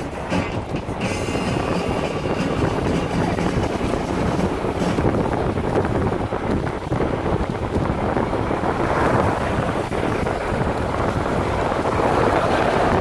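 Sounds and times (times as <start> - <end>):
car driving rumble: 0.0 - 13.0
wind buffeting microphone: 0.0 - 13.0.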